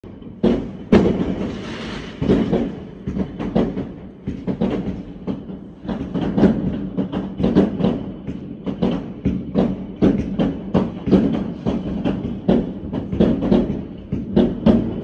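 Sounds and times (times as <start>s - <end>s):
fireworks bangs and cracks: 0.2s - 15.0s.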